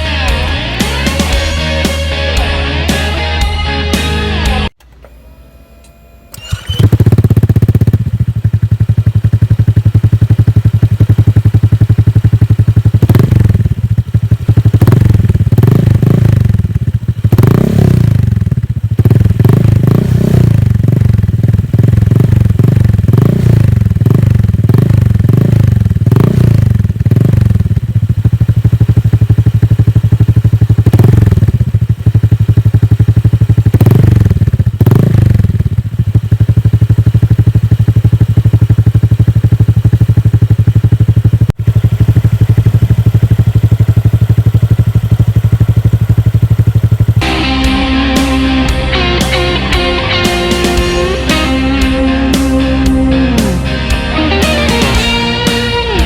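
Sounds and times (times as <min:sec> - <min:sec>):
scooter engine idling and revving: 0:00.0 - 0:05.6, 0:06.3 - 0:56.0.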